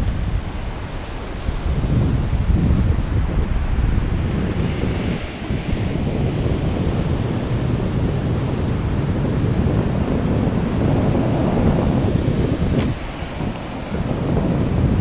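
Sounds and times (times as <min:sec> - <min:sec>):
wind buffeting microphone: 0:00.0 - 0:15.0
surf breaking on beach: 0:00.2 - 0:15.0.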